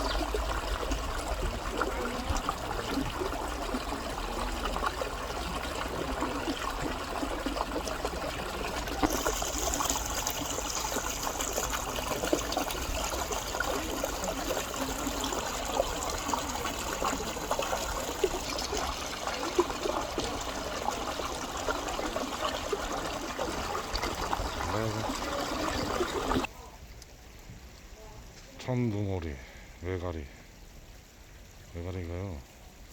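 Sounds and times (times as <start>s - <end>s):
stream water trickling: 0.0s - 32.9s.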